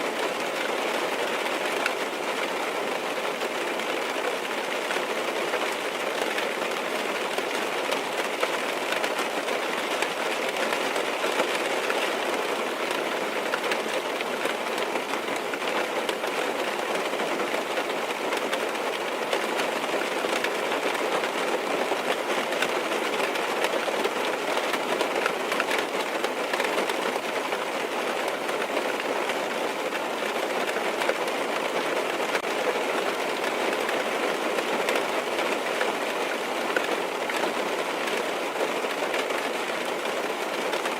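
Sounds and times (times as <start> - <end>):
rain drumming on car roof: 0.0 - 40.9.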